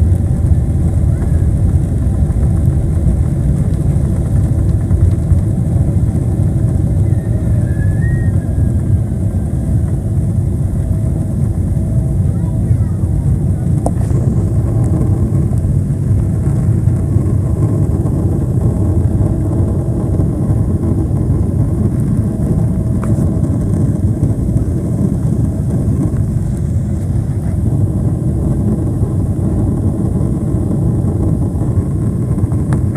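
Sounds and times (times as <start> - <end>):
airplane cabin jet engine drone: 0.0 - 32.9.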